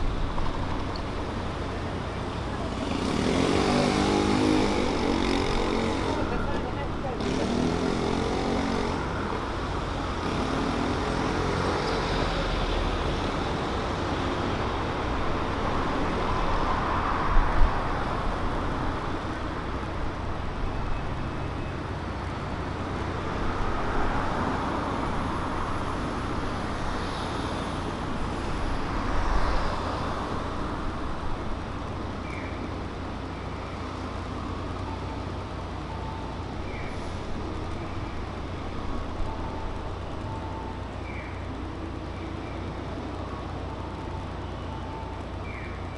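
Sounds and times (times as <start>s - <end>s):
cars passing: 0.0s - 45.9s
road noise hum: 0.0s - 45.9s.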